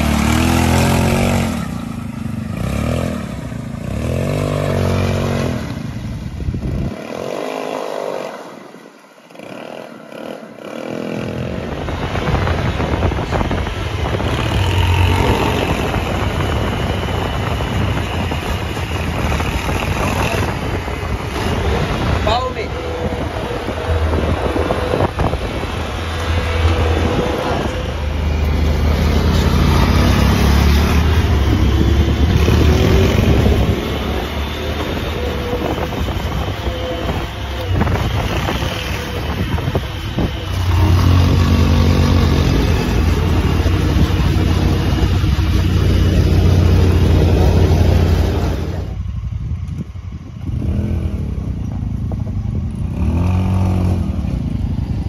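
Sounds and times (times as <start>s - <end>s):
small engine revving: 0.0s - 49.1s, 49.7s - 55.0s.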